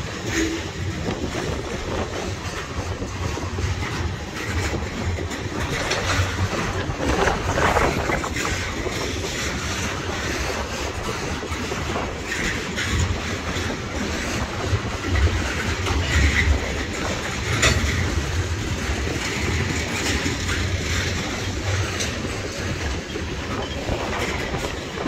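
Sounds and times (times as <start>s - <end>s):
freight train rumbling past: 0.0s - 25.0s
wheels clicking over rail joints: 0.0s - 25.0s.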